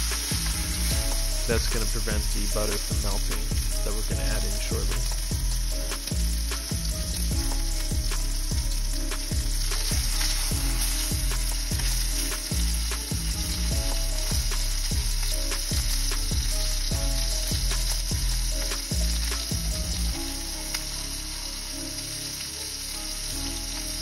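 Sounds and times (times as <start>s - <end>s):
music with heavy bass beat: 0.0s - 22.2s
steak sizzling in a skillet: 0.0s - 24.0s.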